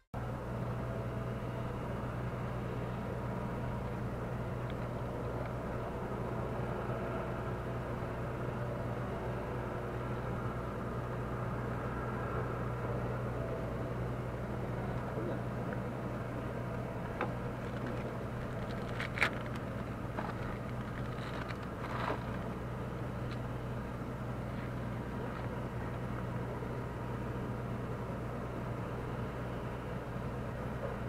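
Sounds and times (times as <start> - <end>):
low engine hum: 0.0 - 31.0
outdoor noise: 0.0 - 31.0.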